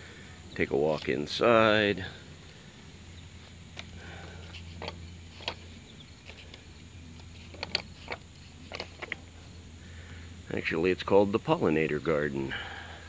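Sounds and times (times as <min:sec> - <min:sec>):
insects: 0:00.0 - 0:13.0.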